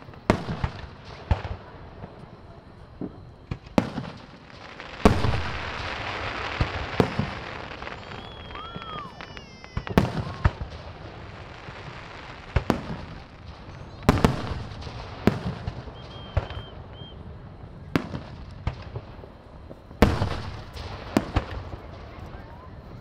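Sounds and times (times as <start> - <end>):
fireworks exploding with echo: 0.0 - 23.0.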